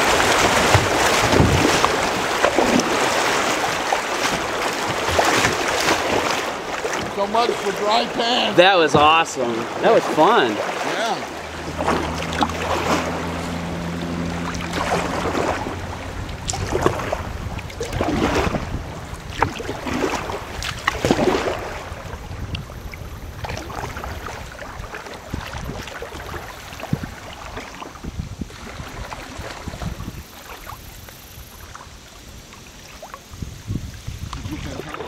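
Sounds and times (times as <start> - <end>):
kayak paddle strokes splashing: 0.0 - 35.0
river water rushing: 0.0 - 35.0.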